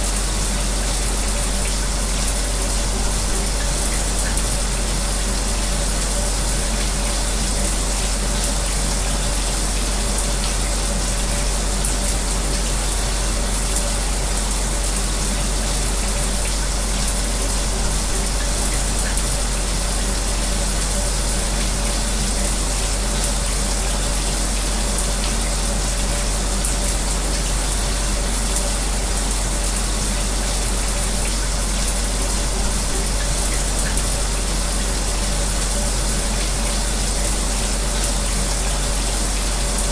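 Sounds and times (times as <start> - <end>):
electric fan humming: 0.0 - 39.9
shower water spraying: 0.0 - 39.9.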